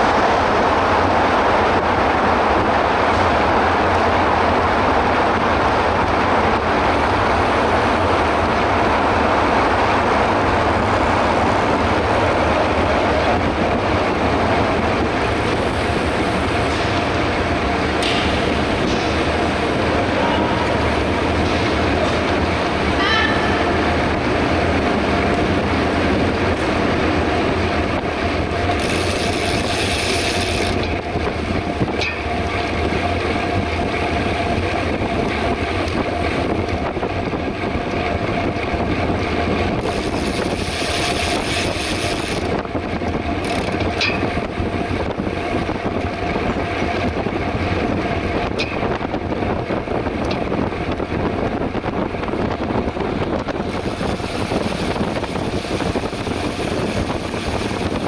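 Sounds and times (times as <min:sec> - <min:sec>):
bike tyre noise on pavement: 0:00.0 - 0:58.0
steady hum: 0:00.0 - 0:58.0
wind rushing: 0:00.0 - 0:58.0.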